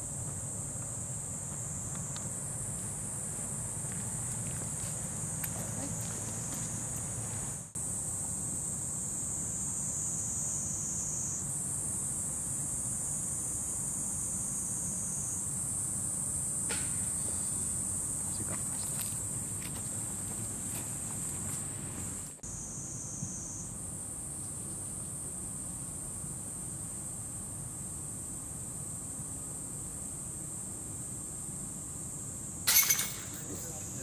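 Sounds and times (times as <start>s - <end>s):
cicadas droning: 0.0s - 34.0s.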